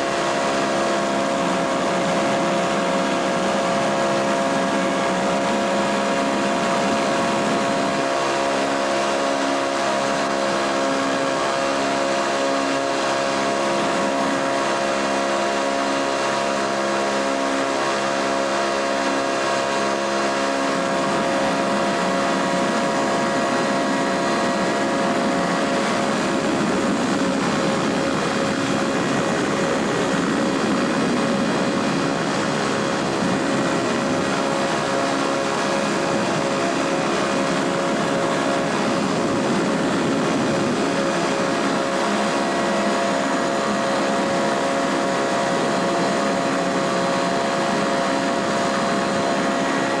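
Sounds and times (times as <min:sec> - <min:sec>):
light airplane engine drone: 0:00.0 - 0:50.0.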